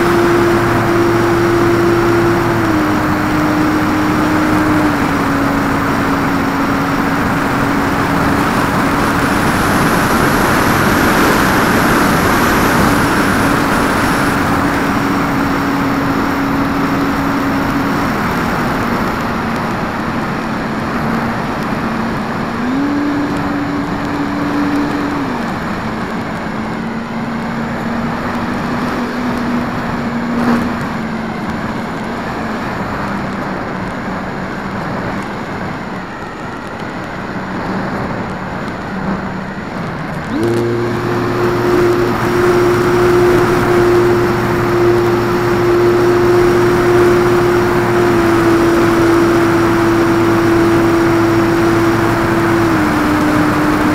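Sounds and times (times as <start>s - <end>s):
rush of airflow: 0.0s - 36.0s, 36.6s - 53.9s
electric motor and propeller whining: 0.0s - 53.9s.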